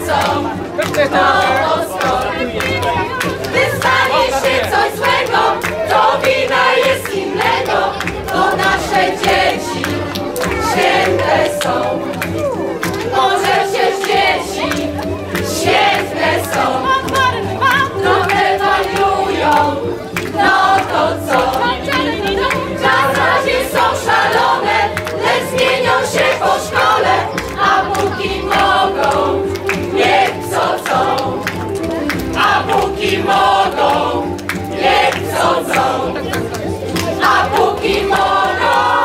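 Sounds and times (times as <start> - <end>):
group of voices singing: 0.0 - 39.0.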